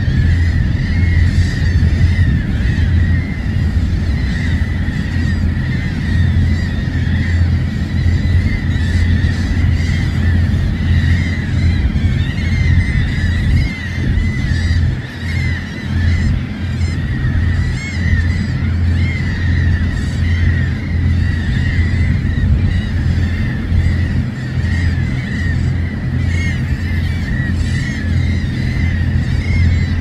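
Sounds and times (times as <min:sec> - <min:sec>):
gulls calling: 0:00.0 - 0:30.0.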